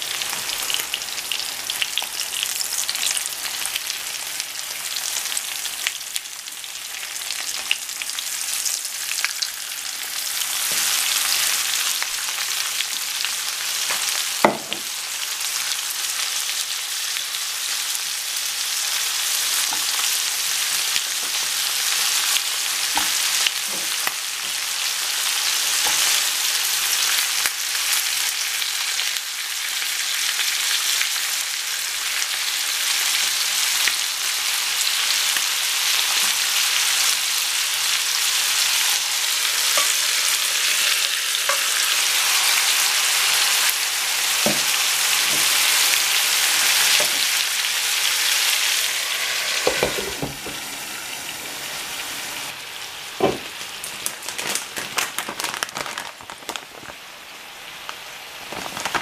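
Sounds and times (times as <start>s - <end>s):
chicken sizzling in a frying pan: 0.0s - 59.0s.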